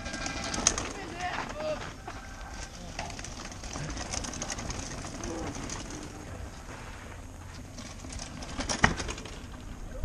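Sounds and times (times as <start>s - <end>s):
bike clack: 0.0s - 6.4s, 7.4s - 9.8s
bike rolling on dirt trail: 0.0s - 10.0s.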